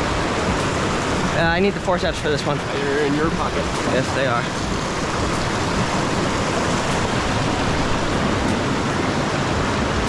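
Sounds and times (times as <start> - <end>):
river water rushing over rocks: 0.0 - 10.0.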